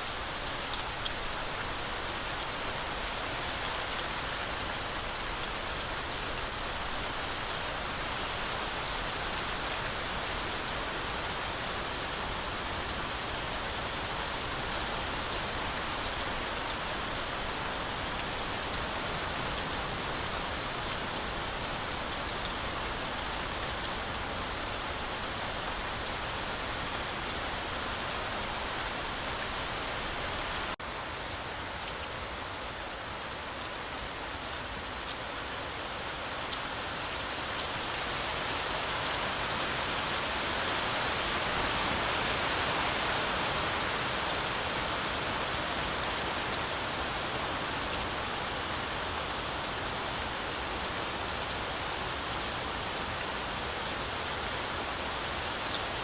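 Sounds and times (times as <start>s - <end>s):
heavy rain through forest canopy: 0.0s - 56.0s.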